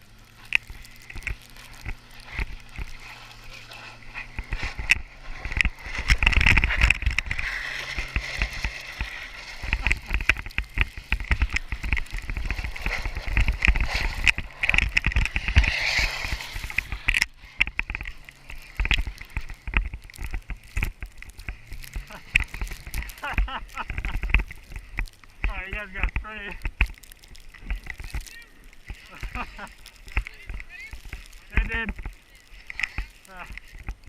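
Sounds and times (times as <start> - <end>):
tyres spinning through snow: 0.0 - 34.0.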